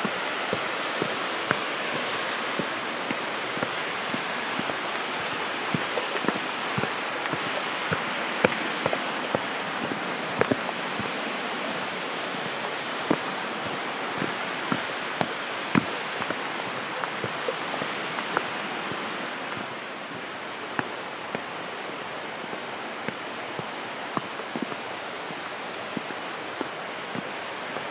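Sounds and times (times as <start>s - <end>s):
falling water rushing: 0.0s - 27.9s
sharp ticks and small splashes: 0.0s - 27.9s.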